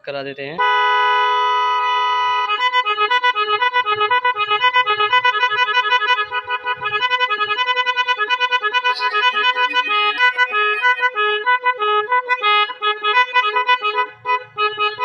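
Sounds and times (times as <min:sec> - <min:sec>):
electronic horn playing tune: 0:00.6 - 0:15.0.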